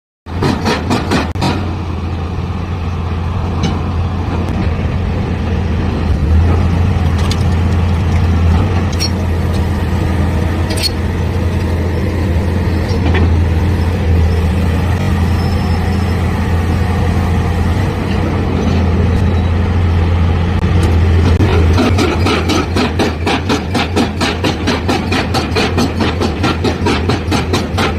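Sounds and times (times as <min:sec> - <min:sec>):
heavy diesel engine running: 0:00.3 - 0:27.9.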